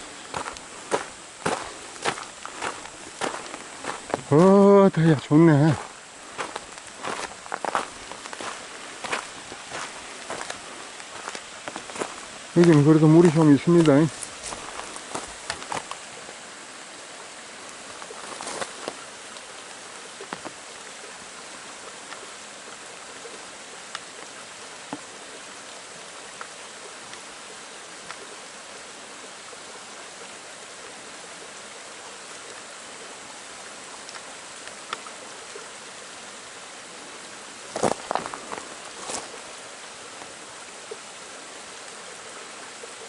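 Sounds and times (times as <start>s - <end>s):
stream flowing over rocks: 0.0s - 43.0s.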